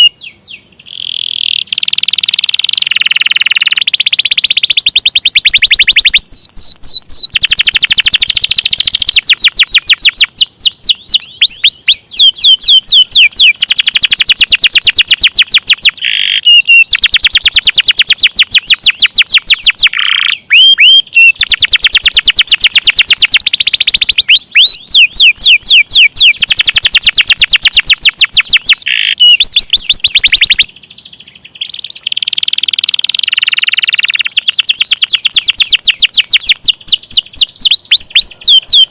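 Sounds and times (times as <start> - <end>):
canary singing trills: 0.0 - 38.9
downward-sweeping chirps: 0.0 - 38.9.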